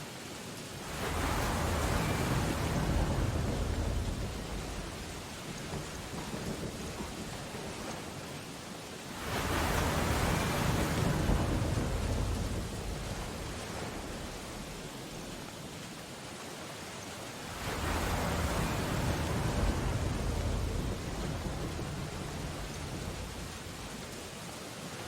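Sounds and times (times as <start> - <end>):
ocean waves breaking: 0.0 - 25.0
steady rain: 0.0 - 25.0.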